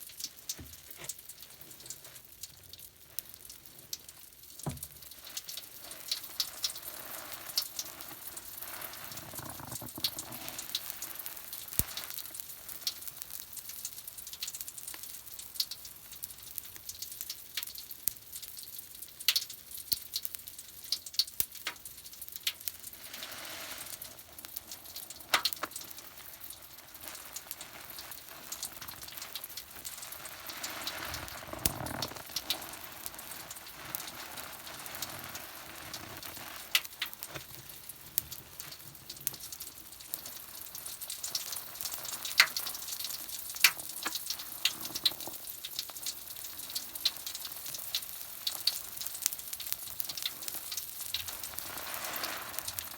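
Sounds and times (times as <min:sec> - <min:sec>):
foam bubbles crackling and fizzing: 0:00.0 - 0:52.9.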